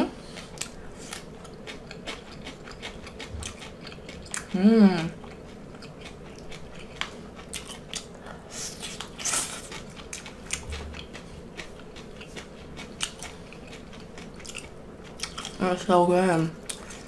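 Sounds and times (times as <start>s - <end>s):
crunching fried shrimp: 0.3s - 15.9s.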